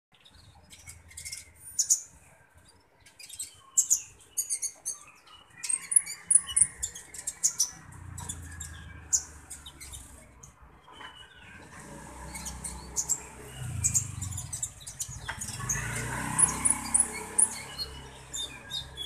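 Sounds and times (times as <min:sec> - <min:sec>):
bird high-pitched chirps: 0:00.2 - 0:19.0.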